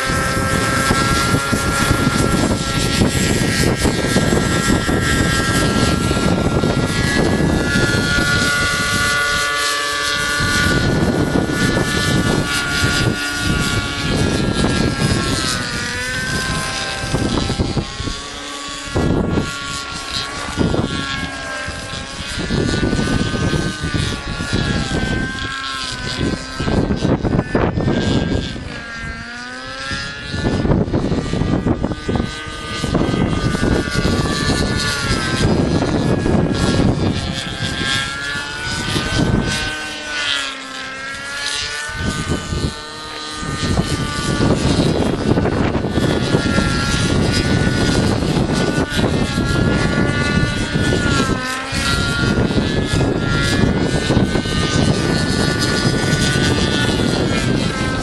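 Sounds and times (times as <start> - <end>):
model helicopter engine whining: 0.0 - 58.0
wind buffeting microphone: 0.0 - 58.0.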